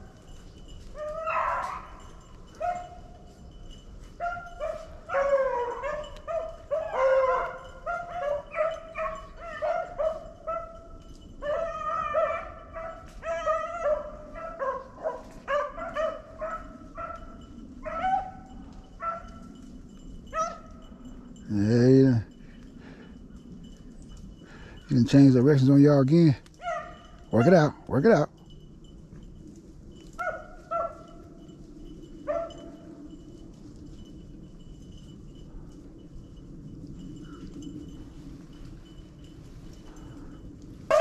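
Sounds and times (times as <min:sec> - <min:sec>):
dogs baying and barking: 0:00.0 - 0:41.0.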